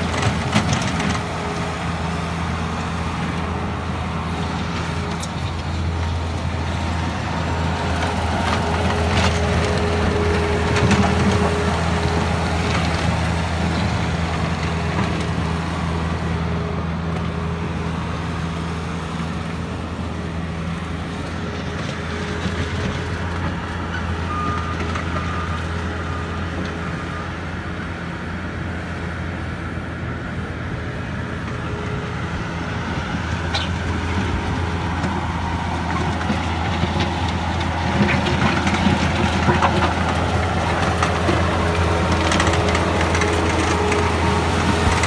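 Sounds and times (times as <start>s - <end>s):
tracks and bucket rattling: 0.0s - 27.0s, 31.2s - 45.0s
diesel engine running: 0.0s - 45.0s.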